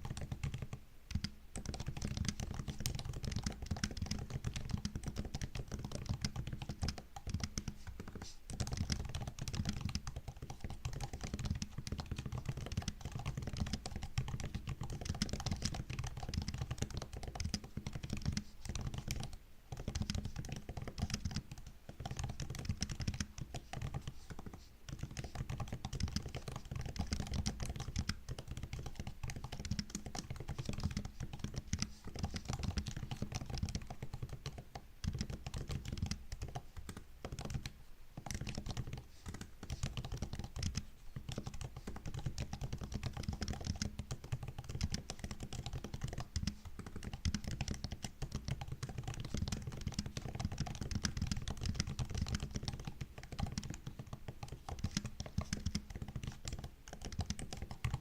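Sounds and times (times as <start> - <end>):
keyboard typing clicks: 0.0 - 58.0.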